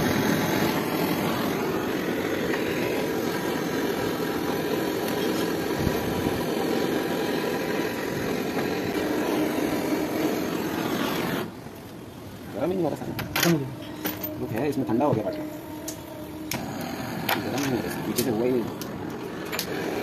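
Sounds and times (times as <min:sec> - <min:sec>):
air conditioner unit running: 0:00.0 - 0:20.0.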